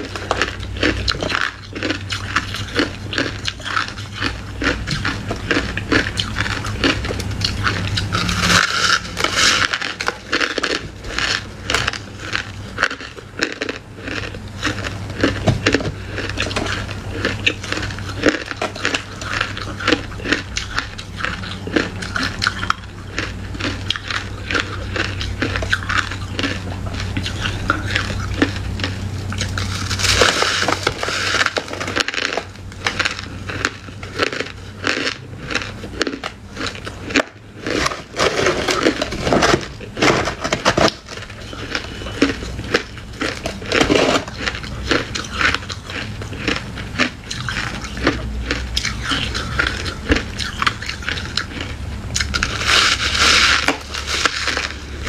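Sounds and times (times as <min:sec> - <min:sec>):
chewing frozen fruit and ice: 0:00.0 - 0:55.0.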